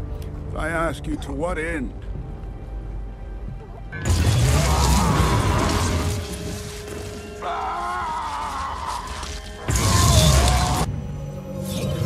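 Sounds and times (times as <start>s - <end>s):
film music: 0.0s - 12.0s.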